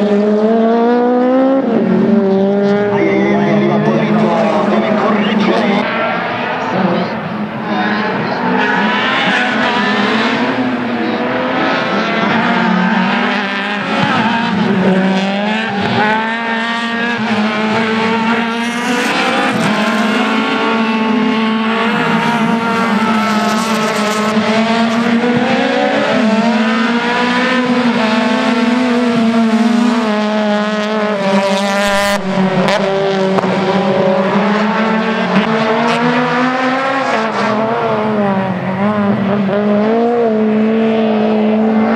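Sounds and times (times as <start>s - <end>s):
racing car engines revving: 0.0s - 41.9s.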